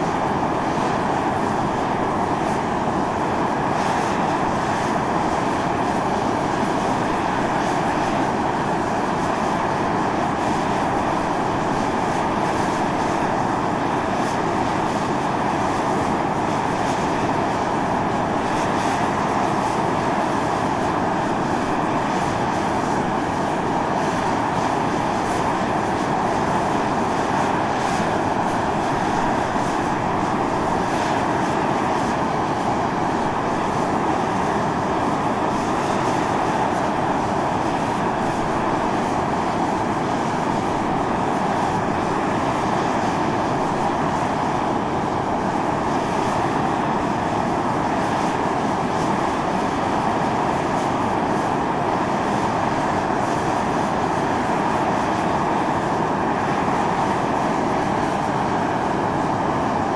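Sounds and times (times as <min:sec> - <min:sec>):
fumarole venting steam hiss: 0:00.0 - 0:59.9.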